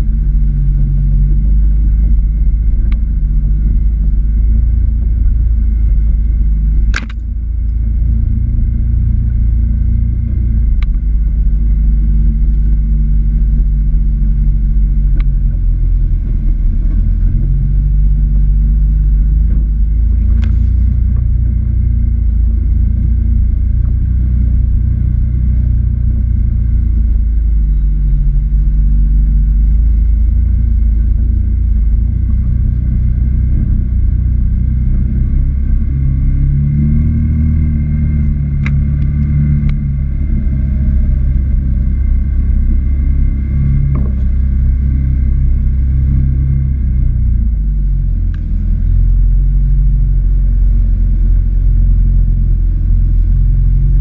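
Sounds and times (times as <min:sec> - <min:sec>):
engine low rumble: 0:00.0 - 0:54.0.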